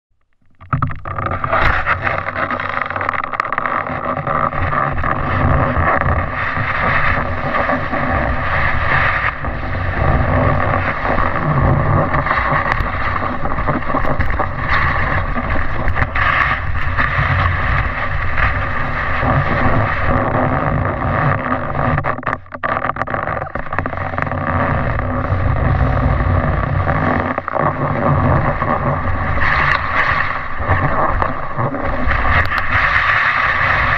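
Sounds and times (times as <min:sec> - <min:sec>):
wind rumbling on microphone: 0:00.4 - 0:33.9
snowboard scraping over snow: 0:01.1 - 0:33.9.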